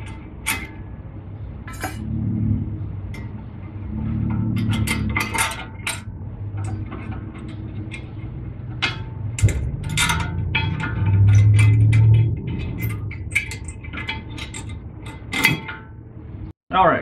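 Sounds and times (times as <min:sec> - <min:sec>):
metal clinks and scrapes: 0:00.0 - 0:16.5
low rumble: 0:00.0 - 0:16.6.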